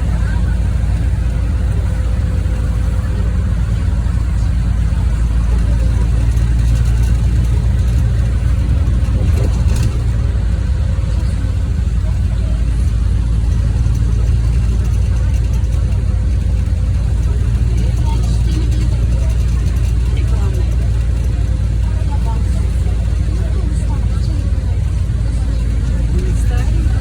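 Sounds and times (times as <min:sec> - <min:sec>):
bus engine drone: 0:00.0 - 0:27.0
road noise: 0:00.0 - 0:27.0.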